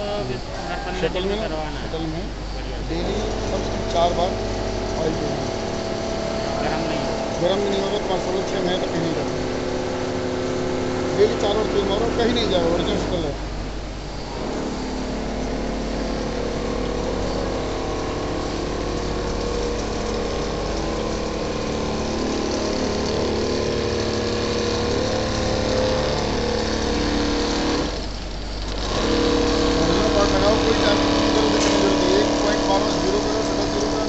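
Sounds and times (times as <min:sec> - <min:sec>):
quilting machine humming: 0:00.0 - 0:34.0.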